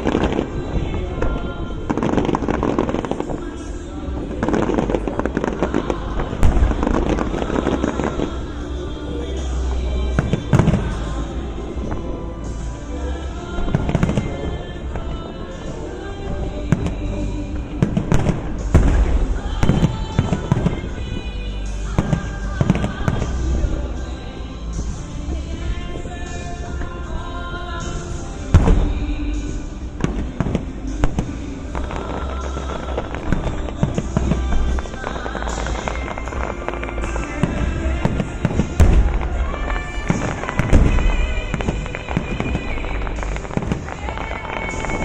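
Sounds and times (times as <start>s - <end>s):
fireworks exploding: 0.0s - 45.0s
music playing: 0.0s - 45.0s.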